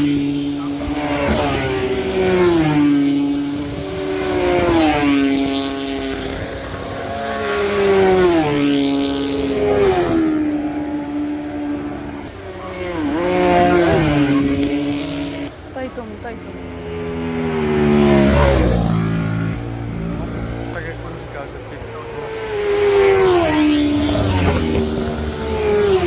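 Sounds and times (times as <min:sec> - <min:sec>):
racing motorcycles passing by: 0:00.0 - 0:26.0.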